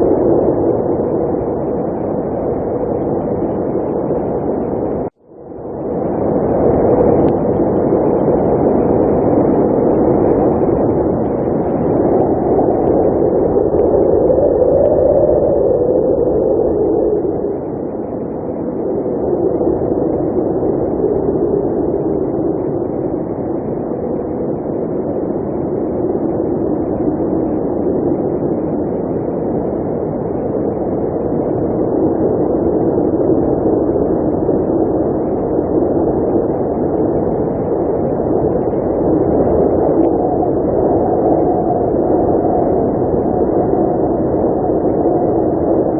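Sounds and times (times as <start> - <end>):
blizzard wind blowing: 0.0 - 45.9.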